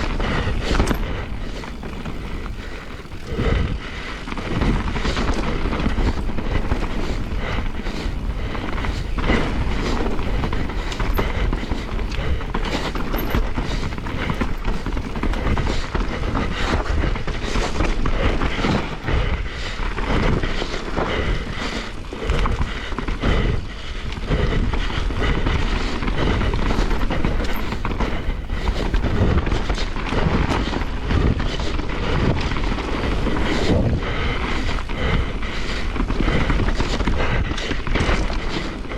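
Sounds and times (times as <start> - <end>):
mountain bike rattling over bumps: 0.0 - 38.9
wind rumble on microphone: 0.0 - 38.9.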